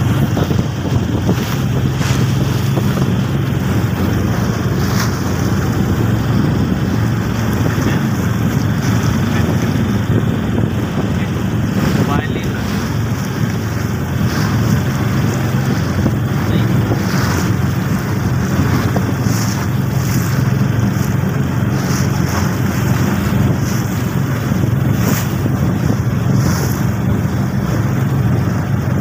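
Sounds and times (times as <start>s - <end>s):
motorboat engine running: 0.0s - 29.0s
water rushing past hull: 0.0s - 29.0s
water splashes: 0.0s - 29.0s
wind buffeting microphone: 0.0s - 29.0s.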